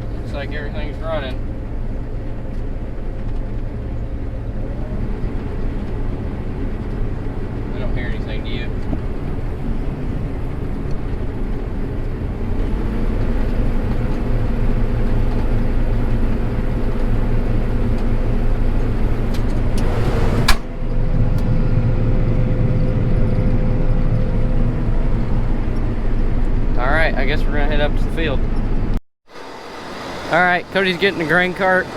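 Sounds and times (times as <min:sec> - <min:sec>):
combine harvester engine drone: 0:00.0 - 0:31.9.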